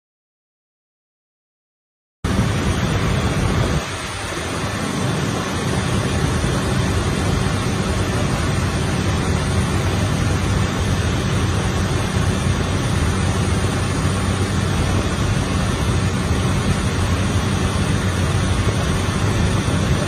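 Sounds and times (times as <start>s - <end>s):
rushing air noise: 2.2s - 20.0s
airplane engine drone: 2.3s - 20.0s.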